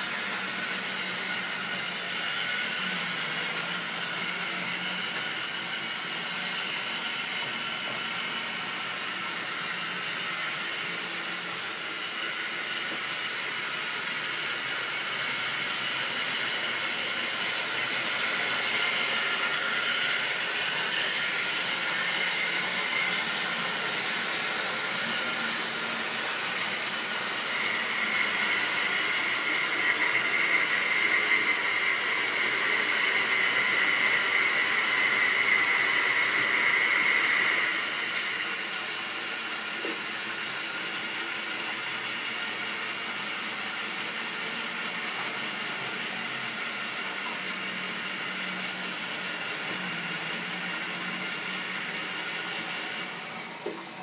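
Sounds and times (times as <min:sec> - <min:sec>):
model train motors whirring: 0:00.0 - 0:54.0.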